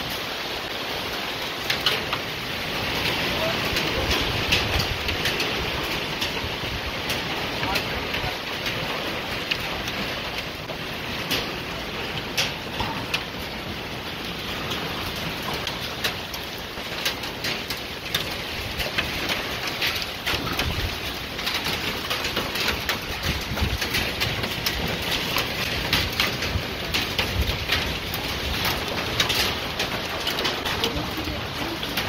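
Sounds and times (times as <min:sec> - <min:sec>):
heavy rain and hail falling: 0:00.0 - 0:32.0.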